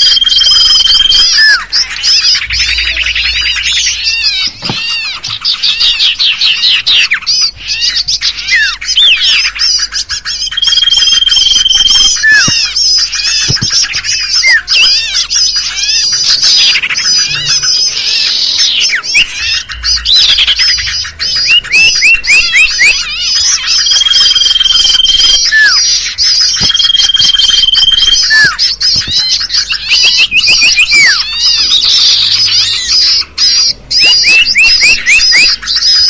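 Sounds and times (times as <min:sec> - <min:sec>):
small songbirds chattering: 0:00.0 - 0:36.0.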